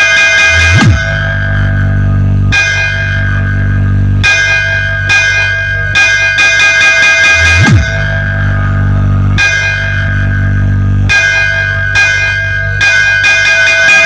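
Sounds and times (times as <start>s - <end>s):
bell-like chords: 0.0s - 14.0s
heavy sustained bass: 0.6s - 13.9s.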